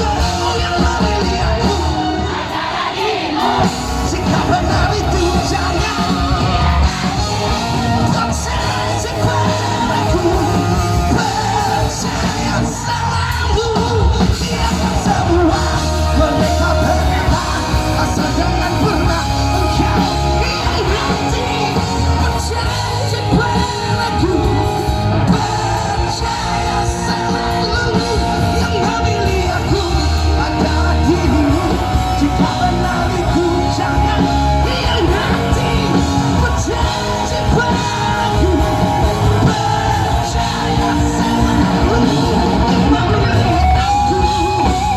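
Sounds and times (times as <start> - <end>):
people singing: 0.0 - 44.9
rock band playing loud: 0.0 - 44.9.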